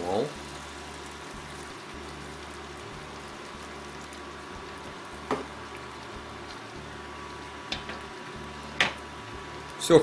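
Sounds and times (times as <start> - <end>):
food bubbling and sizzling in pan: 0.0 - 10.0.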